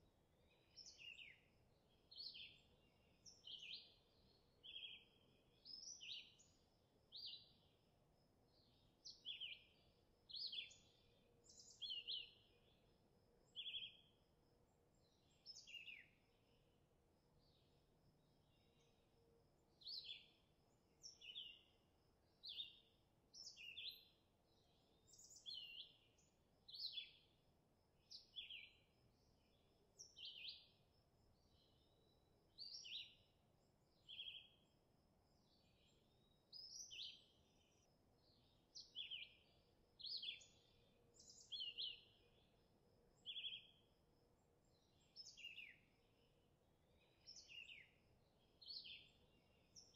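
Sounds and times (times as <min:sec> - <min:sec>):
outdoor background noise: 0:00.0 - 0:49.9.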